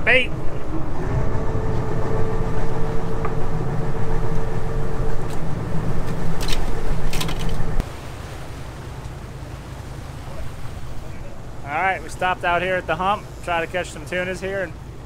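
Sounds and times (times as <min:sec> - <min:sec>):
boat engine droning: 0:00.0 - 0:15.0
wind and water noise: 0:00.0 - 0:15.0.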